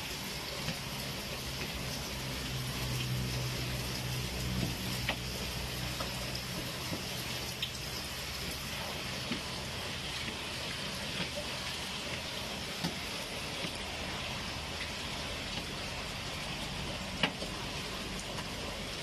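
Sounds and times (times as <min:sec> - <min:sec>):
broth boiling in a wok: 0:00.0 - 0:19.0.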